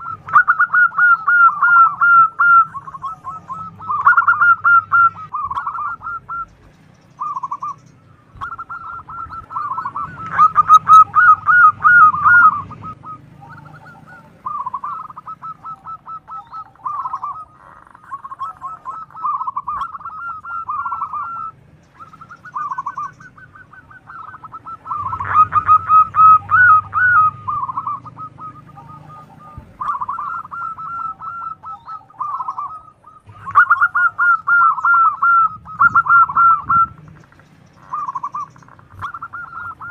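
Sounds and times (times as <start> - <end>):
dove cooing trills: 0.0 - 39.9.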